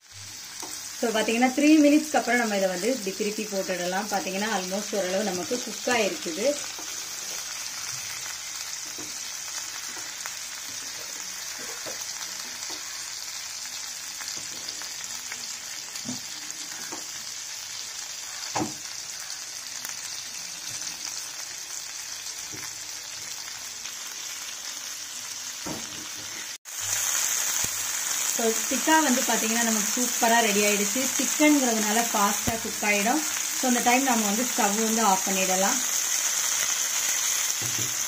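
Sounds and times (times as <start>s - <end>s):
meat sizzling in a pan: 0.0s - 38.0s.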